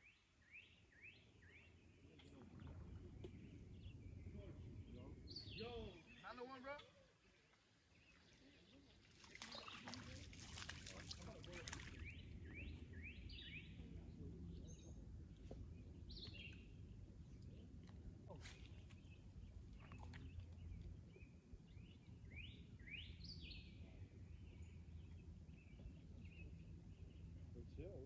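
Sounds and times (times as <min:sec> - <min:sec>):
faint low outdoor rumble: 0:00.0 - 0:28.0
songbird chirping: 0:00.0 - 0:28.0.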